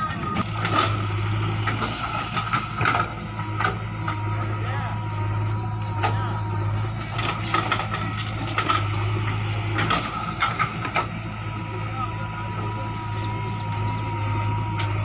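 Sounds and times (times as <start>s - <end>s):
diesel engine running: 0.0s - 15.0s
tractor idling: 0.0s - 15.0s
thin steady whine: 0.4s - 15.0s.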